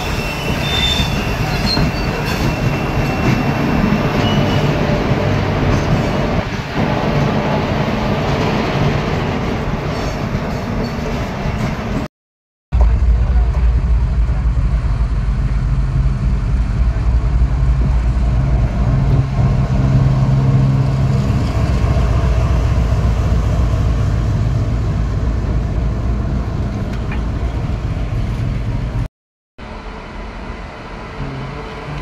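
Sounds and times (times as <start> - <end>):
diesel locomotive engine drone: 0.0 - 12.0, 12.8 - 32.0
train rumble: 0.0 - 12.1, 12.7 - 32.0.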